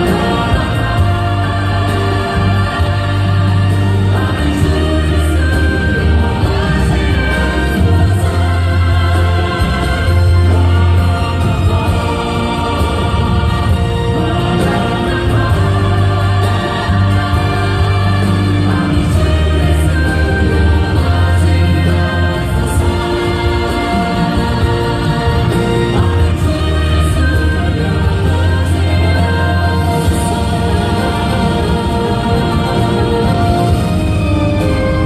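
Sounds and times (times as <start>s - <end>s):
choir singing a hymn: 0.0s - 35.0s
instrumental accompaniment: 0.0s - 35.0s.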